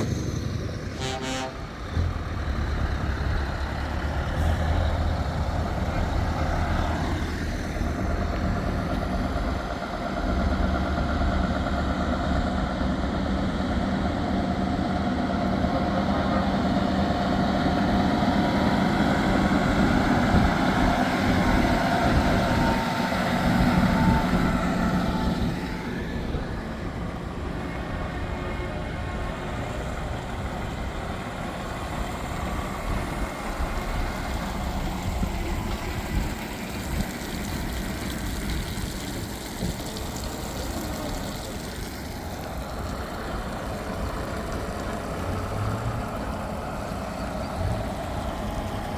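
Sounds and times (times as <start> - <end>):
heavy truck engine rumbling: 0.0 - 48.9.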